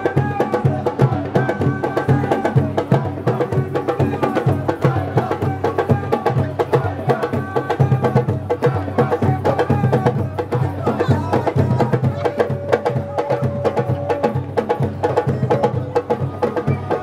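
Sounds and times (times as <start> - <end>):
fast percussion beat: 0.0 - 17.0.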